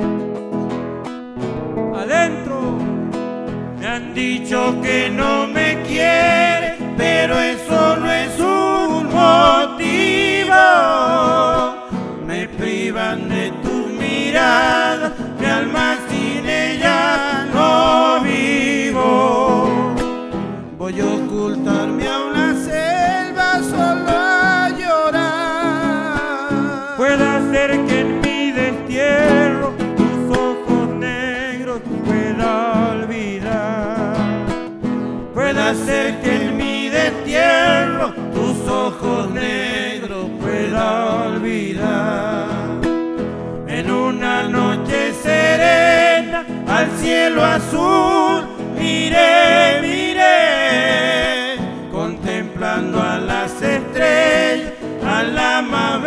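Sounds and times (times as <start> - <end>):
strummed acoustic guitars: 0.0 - 56.0
person singing with vibrato: 1.9 - 3.1, 3.8 - 34.2, 35.3 - 56.0.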